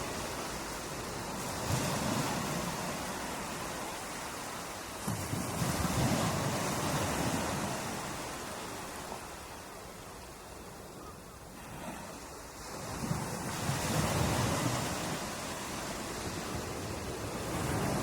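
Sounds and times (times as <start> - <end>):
ocean waves washing onto beach: 0.0 - 18.0.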